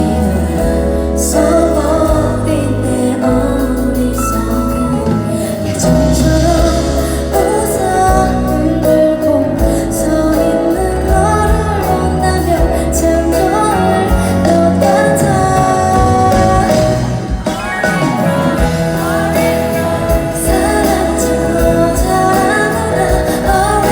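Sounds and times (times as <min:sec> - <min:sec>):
band accompaniment: 0:00.0 - 0:23.9
woman singing: 0:00.0 - 0:23.9.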